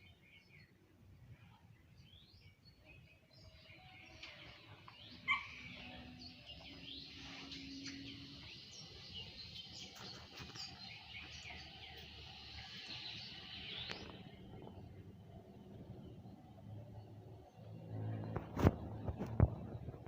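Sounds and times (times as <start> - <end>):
small birds chirping: 0.0 - 19.8.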